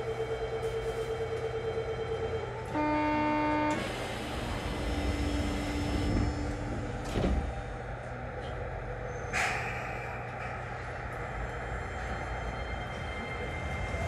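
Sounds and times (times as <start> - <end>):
tram car hum: 0.0 - 14.0.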